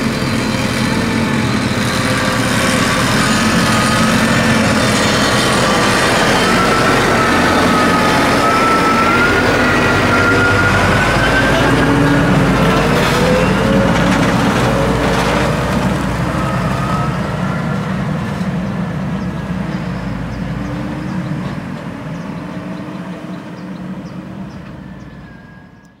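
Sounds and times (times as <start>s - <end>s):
tractor engine passing: 0.0s - 25.9s.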